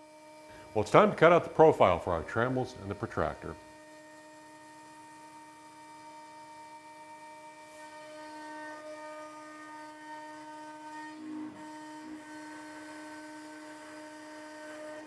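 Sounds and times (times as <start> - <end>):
router spindle cutting plastic: 0.6 - 15.0.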